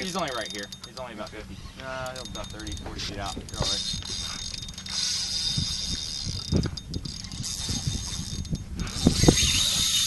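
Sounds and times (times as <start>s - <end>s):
fishing reel drag buzzing: 0.0s - 10.0s.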